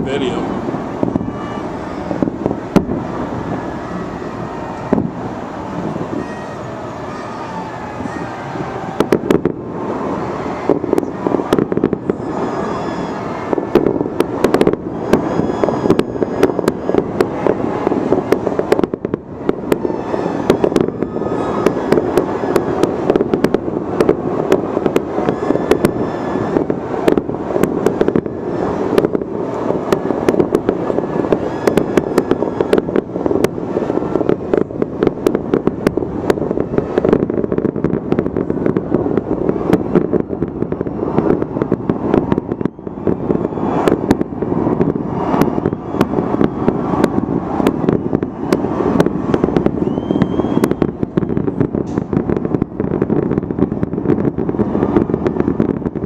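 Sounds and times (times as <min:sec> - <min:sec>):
fireworks bangs and crackling: 0:00.0 - 0:56.0
rumbling of explosions: 0:07.9 - 0:56.0.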